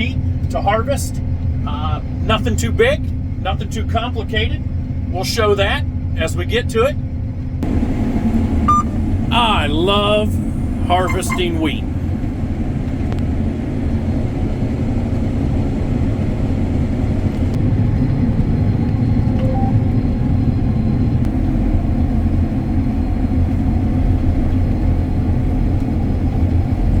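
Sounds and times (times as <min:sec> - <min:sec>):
combine harvester running: 0:00.0 - 0:27.0.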